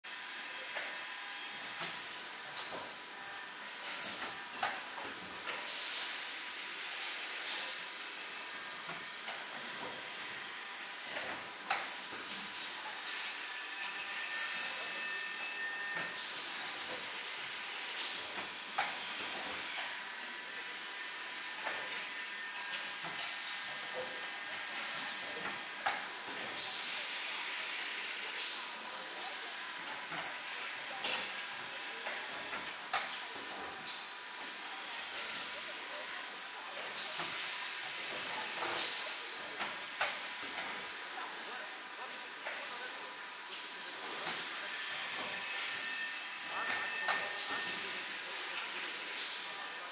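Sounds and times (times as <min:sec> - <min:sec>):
steady machine hiss: 0:00.3 - 0:04.6, 0:05.6 - 0:42.0, 0:42.6 - 0:49.9.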